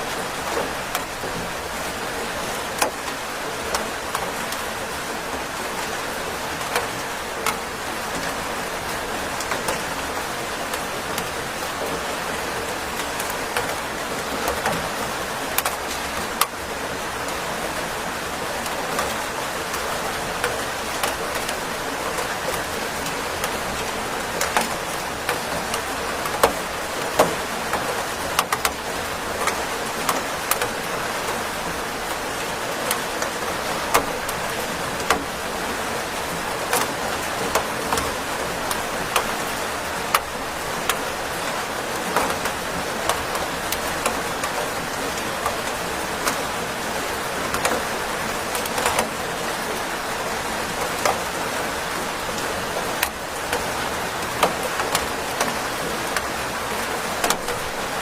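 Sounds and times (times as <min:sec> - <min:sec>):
steady rainfall hiss: 0:00.0 - 0:58.0.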